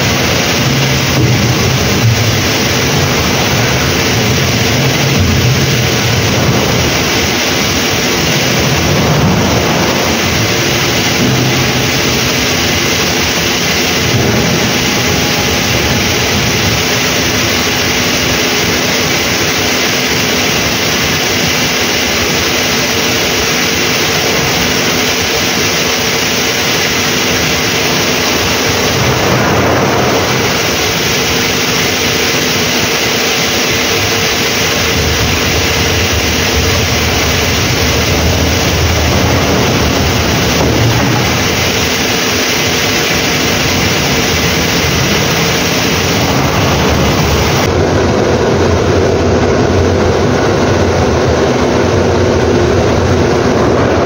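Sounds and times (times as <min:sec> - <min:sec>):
loud rushing noise: 0:00.0 - 0:54.0.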